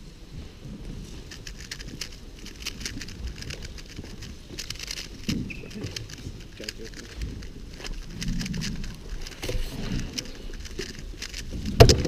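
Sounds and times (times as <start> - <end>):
speedcube layers clicking: 1.2 - 12.0.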